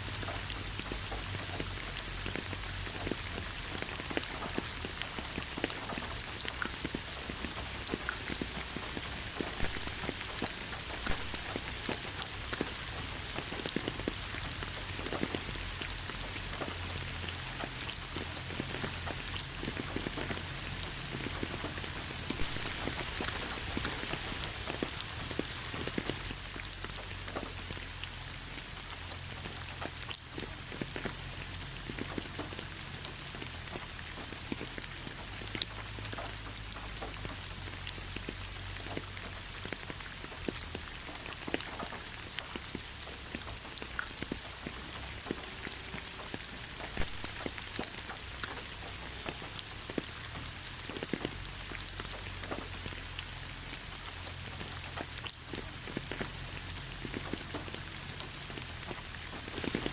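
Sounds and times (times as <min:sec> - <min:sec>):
raindrops ticking close by: 0:00.0 - 0:59.9
steady rain hiss: 0:00.0 - 0:59.9.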